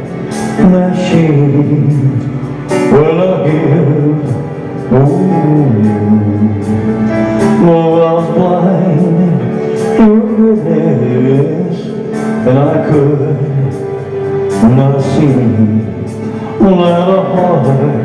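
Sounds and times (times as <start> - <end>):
backing music: 0.0 - 18.0
man singing a slow ballad: 0.0 - 18.0.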